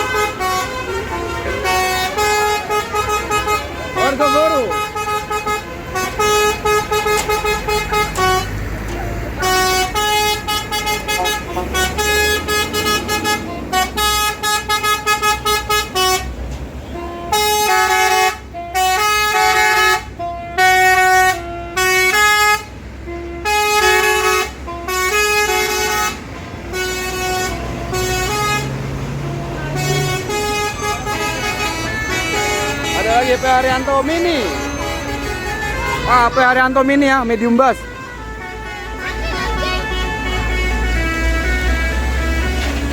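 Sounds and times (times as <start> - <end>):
bus engine running: 0.0 - 42.9
musical air horn playing tune: 0.0 - 42.9.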